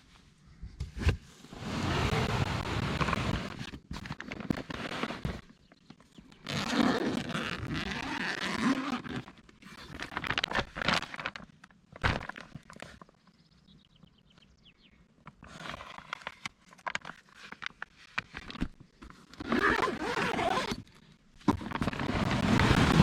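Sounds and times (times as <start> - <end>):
camping gear rustling: 0.0 - 13.2, 15.2 - 23.0.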